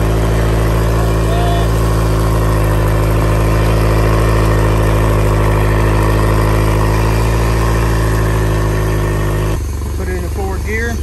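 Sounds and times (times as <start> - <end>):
outboard engine running: 0.0 - 11.0.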